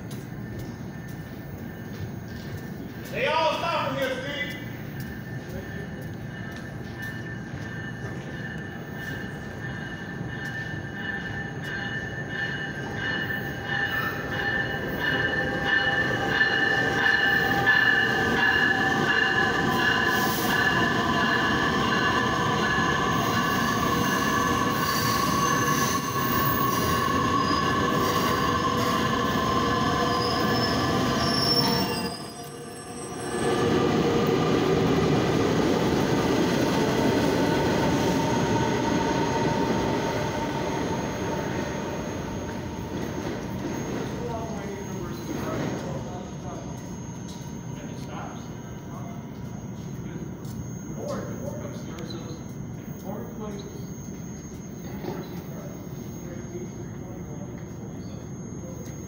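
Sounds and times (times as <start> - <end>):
train rumbling into platform: 0.0 - 59.0
wheels and brakes squealing: 0.0 - 59.0.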